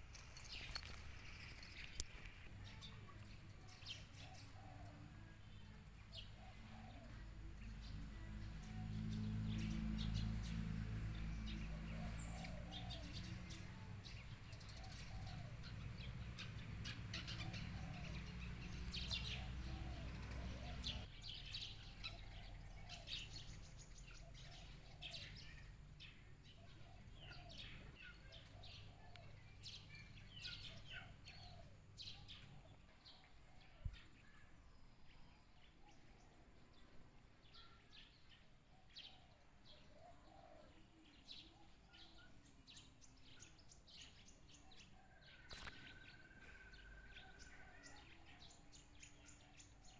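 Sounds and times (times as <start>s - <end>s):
birds chirping and calling: 0.0s - 49.9s.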